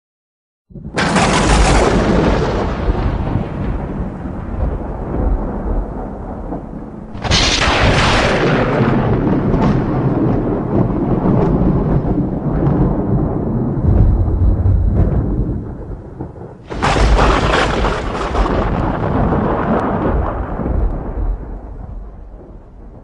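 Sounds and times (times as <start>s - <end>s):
sharp thunder crack: 0.7s - 23.0s
thunder rumbling: 0.7s - 23.0s.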